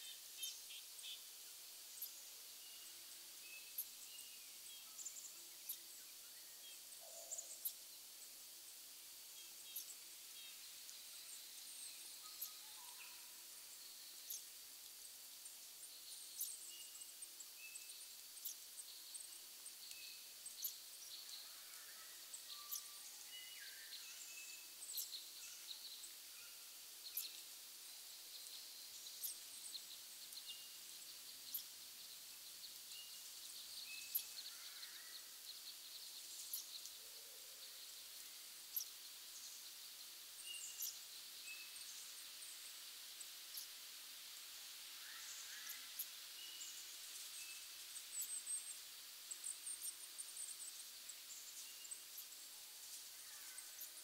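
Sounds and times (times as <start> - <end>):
background hiss: 0.0 - 54.0
small birds chirping: 0.0 - 54.0.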